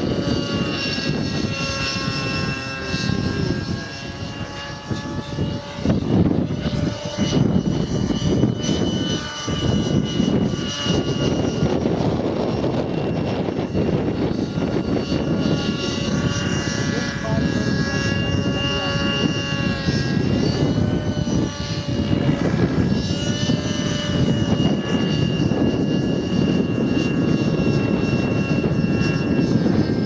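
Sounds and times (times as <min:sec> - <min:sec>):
rc helicopter engine and rotors whining: 0:00.0 - 0:30.0
steady rushing noise: 0:00.0 - 0:30.0.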